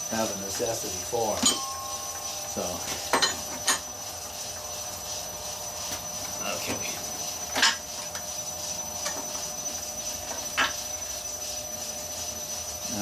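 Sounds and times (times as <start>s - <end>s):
wood lathe whining: 0.0s - 13.0s.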